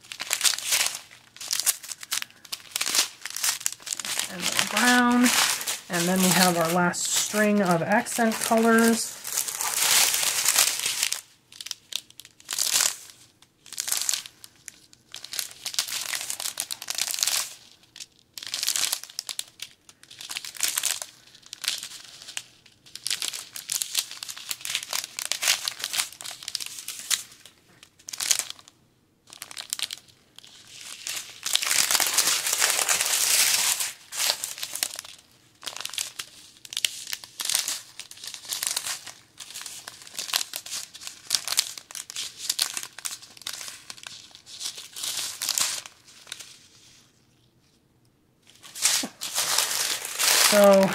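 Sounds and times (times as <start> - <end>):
plastic bags crinkling: 0.0 - 47.4, 48.4 - 50.9.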